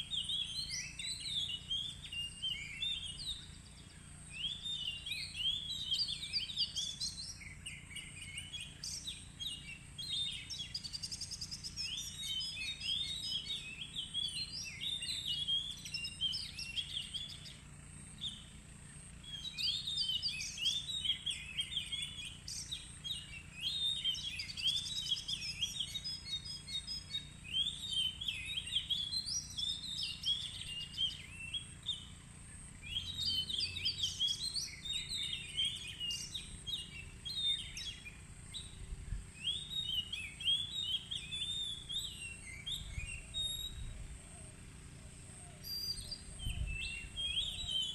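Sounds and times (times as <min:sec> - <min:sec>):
bird singing whistled phrases: 0:00.0 - 0:17.6, 0:19.2 - 0:32.1, 0:32.8 - 0:44.5, 0:45.3 - 0:47.9.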